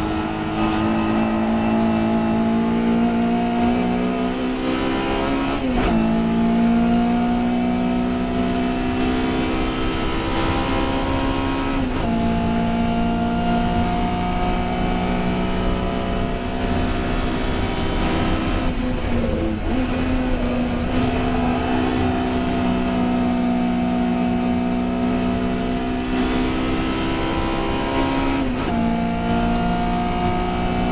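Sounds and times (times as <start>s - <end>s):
race car engine running hard: 0.0s - 30.9s.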